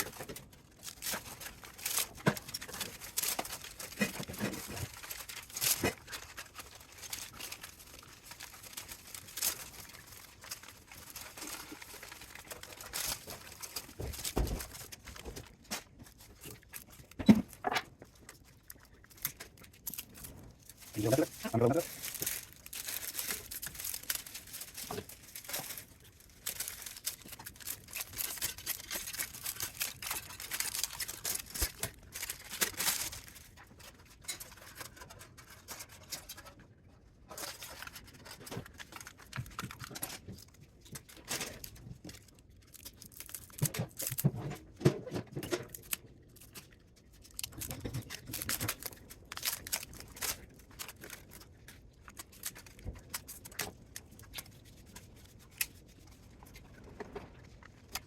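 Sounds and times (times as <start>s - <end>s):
metal foil crinkling and tearing: 0.0s - 58.0s.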